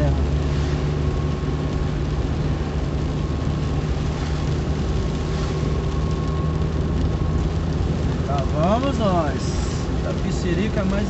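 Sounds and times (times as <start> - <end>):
car engine hum: 0.0 - 11.0
tyre noise on wet road: 0.0 - 11.0.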